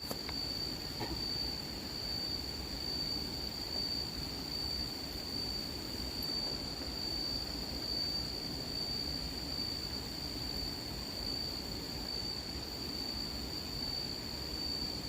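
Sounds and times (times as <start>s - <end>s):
high-pitched cricket trill: 0.0s - 15.0s.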